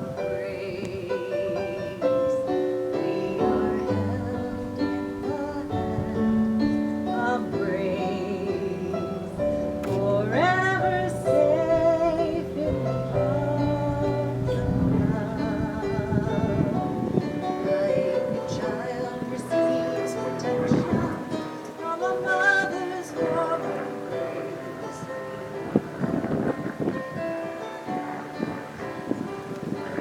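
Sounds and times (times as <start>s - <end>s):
acoustic guitar: 0.0s - 30.0s
person singing slow song: 0.0s - 30.0s.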